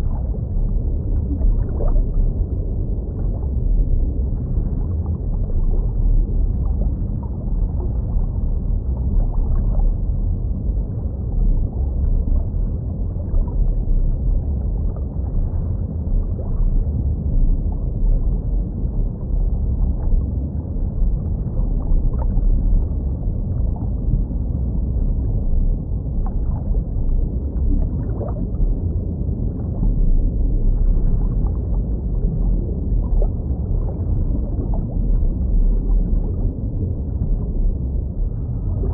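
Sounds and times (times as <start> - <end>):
underwater rumble of moving water: 0.0 - 38.9.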